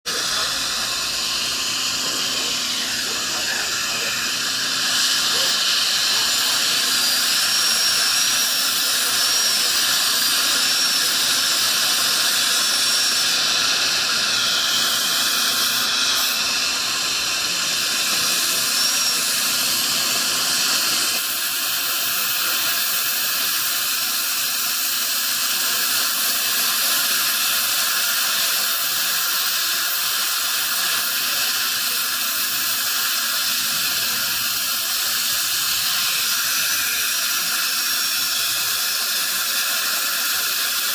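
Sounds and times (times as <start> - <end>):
dental drill whining: 0.0 - 40.9.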